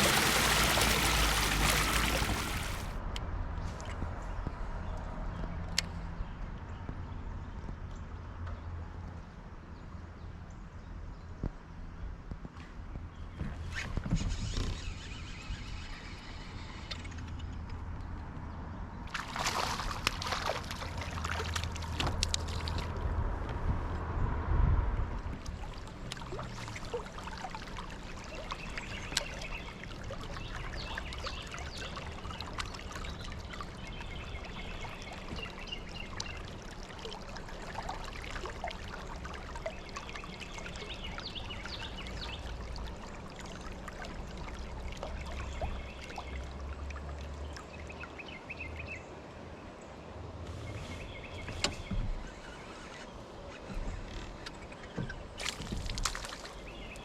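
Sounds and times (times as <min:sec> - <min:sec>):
river water trickling: 0:00.0 - 0:03.0, 0:13.5 - 0:57.0.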